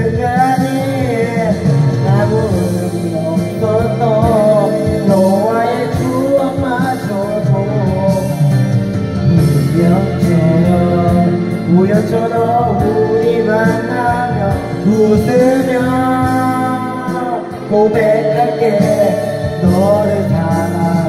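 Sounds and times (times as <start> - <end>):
karaoke backing track: 0.0 - 21.0
man singing a pop ballad: 0.0 - 21.0.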